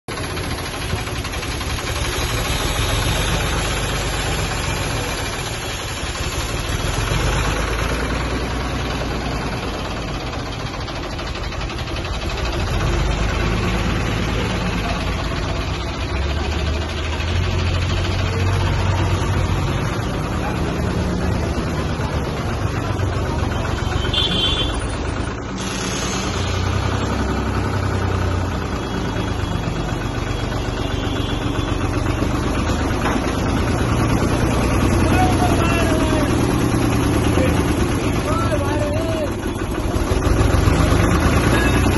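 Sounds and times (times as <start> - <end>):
diesel engine humming: 0.1 - 41.9.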